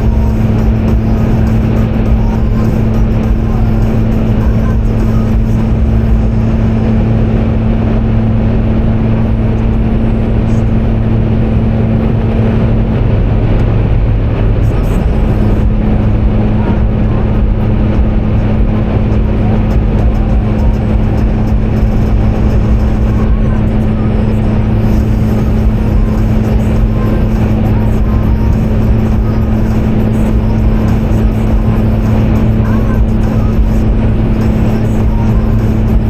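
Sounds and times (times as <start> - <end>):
car road noise from inside: 0.0 - 36.0.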